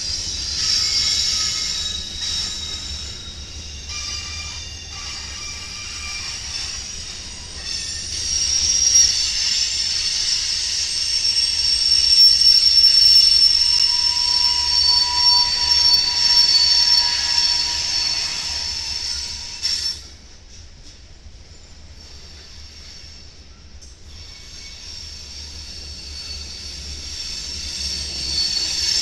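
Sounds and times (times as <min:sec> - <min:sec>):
train wheels squealing on rails: 0:00.0 - 0:29.0.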